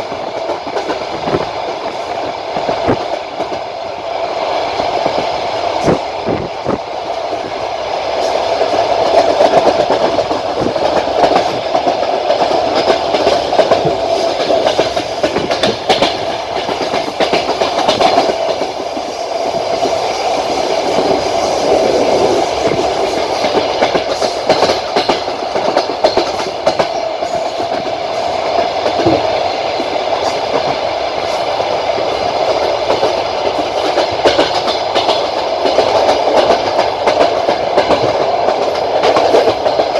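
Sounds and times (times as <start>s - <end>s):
train rolling rumble: 0.0s - 39.9s
train wheels clattering: 0.0s - 39.9s.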